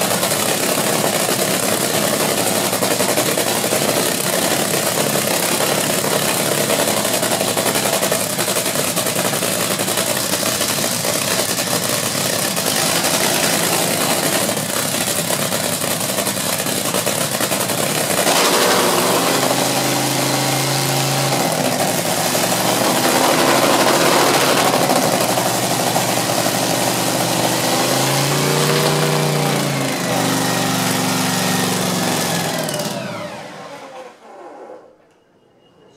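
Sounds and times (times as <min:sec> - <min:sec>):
engine throttle blips: 0:00.0 - 0:33.9
race engine running rough: 0:00.0 - 0:33.9.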